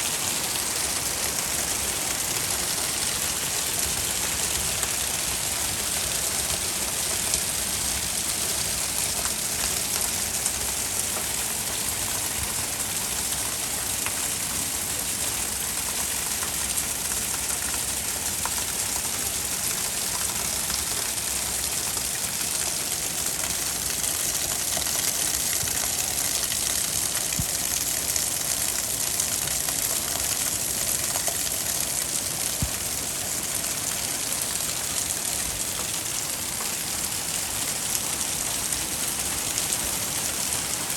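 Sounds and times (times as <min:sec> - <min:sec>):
heavy rain pouring: 0:00.0 - 0:40.9
raindrops ticking on a surface: 0:00.2 - 0:40.9.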